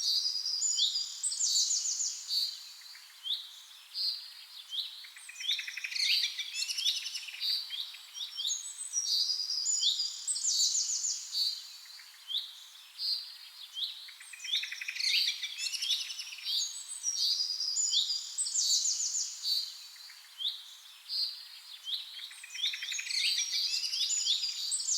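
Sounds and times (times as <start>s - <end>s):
songbird chirping and trilling: 0.6s - 24.9s.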